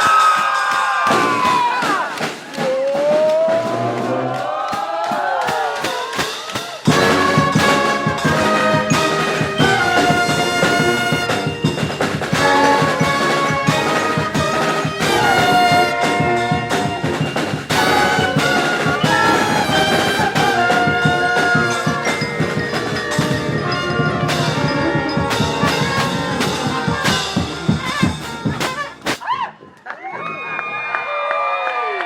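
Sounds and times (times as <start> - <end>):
drums keeping a steady beat: 0.0 - 29.4
trumpets and trombones: 1.1 - 4.6, 6.2 - 29.2.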